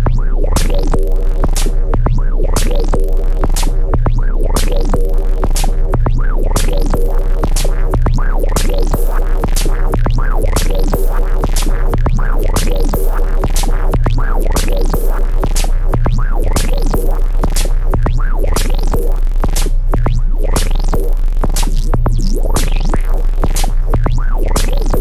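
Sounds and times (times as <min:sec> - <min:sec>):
deep bass tone: 0:00.0 - 0:25.0
kick and snare beat: 0:00.0 - 0:25.0
sequenced synth line: 0:00.0 - 0:25.0.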